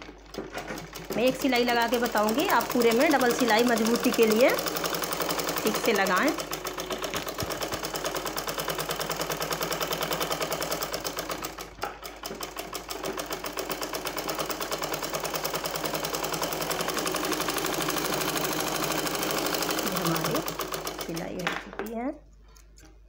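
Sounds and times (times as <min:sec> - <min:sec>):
sewing machine stitching: 0:00.0 - 0:21.7.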